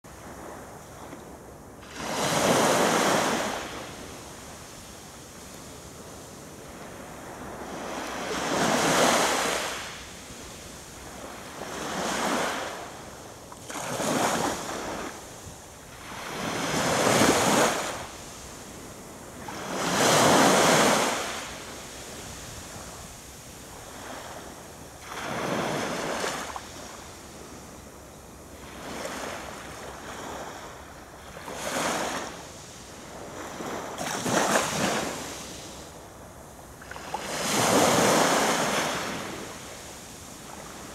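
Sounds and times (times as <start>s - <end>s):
small waves washing on sand: 0.1s - 28.0s, 28.6s - 40.9s.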